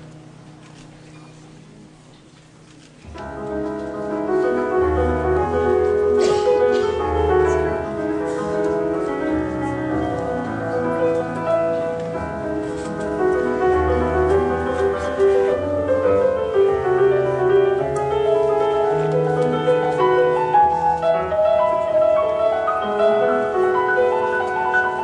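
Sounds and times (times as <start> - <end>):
grand piano playing: 3.0 - 25.0.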